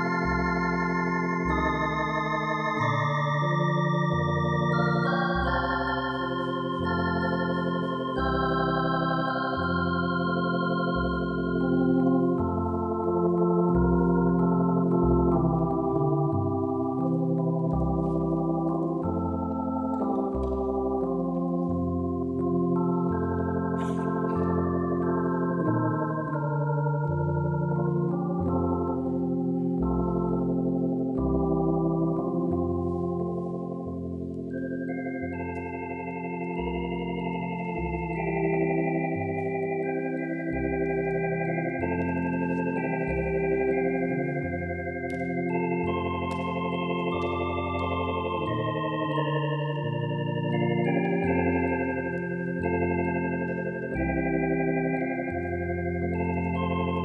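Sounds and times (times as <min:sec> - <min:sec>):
slow organ music: 0:00.0 - 0:57.0.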